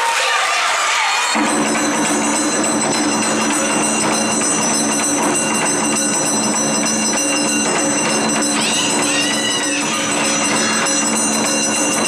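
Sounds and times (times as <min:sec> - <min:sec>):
barrel drums beating: 0:01.4 - 0:12.0
held shrill tones: 0:01.4 - 0:12.0
metallic ringing: 0:01.4 - 0:12.0.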